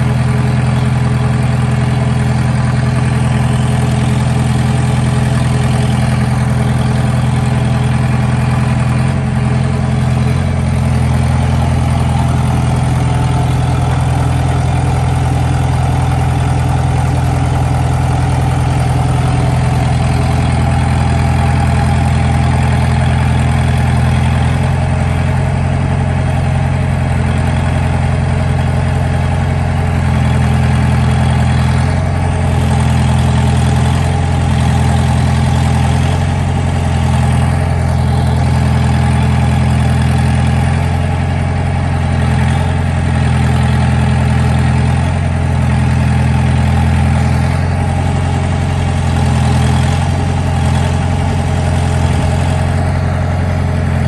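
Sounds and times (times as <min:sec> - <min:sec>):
concrete pump engine humming: 0:00.0 - 0:54.0.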